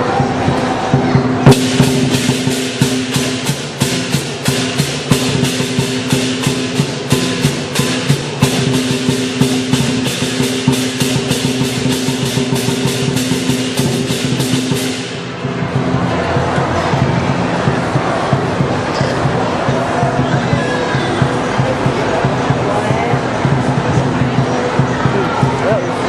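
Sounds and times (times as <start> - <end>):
cymbals clashing: 0.0 - 26.0
drum beating: 0.0 - 26.0.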